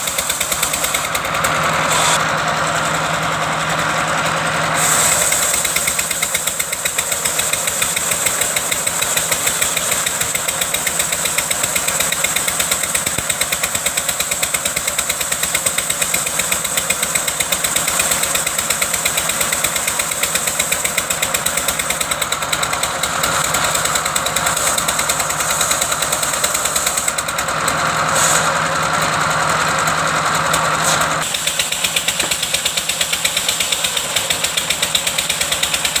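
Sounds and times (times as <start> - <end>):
wood-cutting machine engine running: 0.0 - 36.0.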